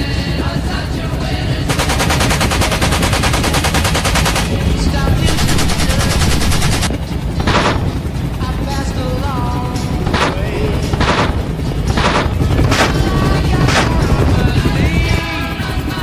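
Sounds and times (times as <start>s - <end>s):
helicopter low rumble: 0.0s - 16.0s.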